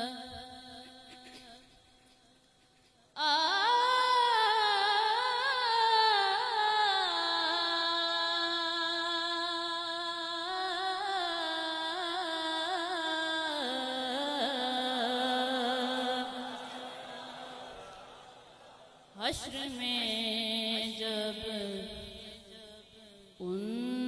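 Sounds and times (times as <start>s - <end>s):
boy singing unaccompanied: 0.0s - 1.6s, 3.2s - 16.4s, 19.2s - 24.0s.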